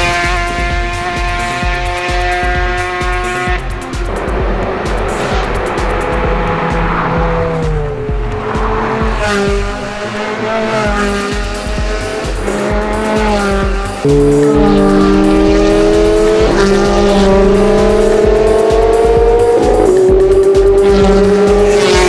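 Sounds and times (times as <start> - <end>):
car engines revving hard: 0.0 - 22.0.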